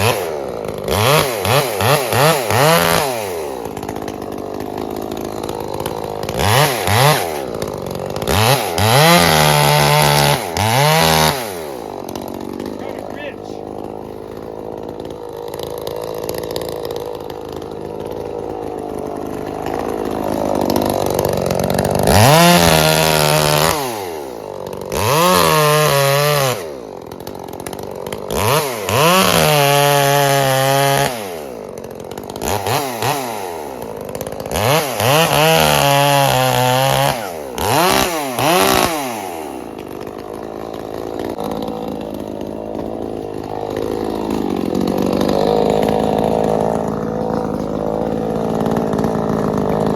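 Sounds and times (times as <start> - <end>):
chainsaw idling and revving: 0.0 - 49.9.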